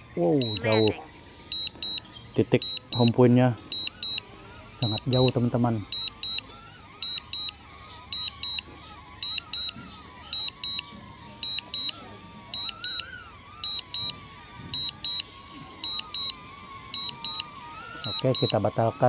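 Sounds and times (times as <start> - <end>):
short high warning beeps: 0.2 - 14.2, 14.8 - 18.8.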